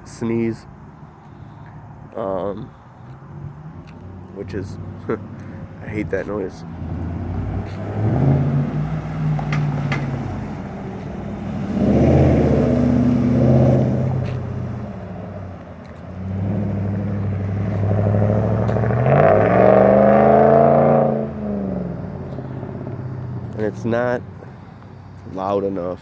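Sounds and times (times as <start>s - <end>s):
loud engine idling and revving: 3.3s - 25.7s.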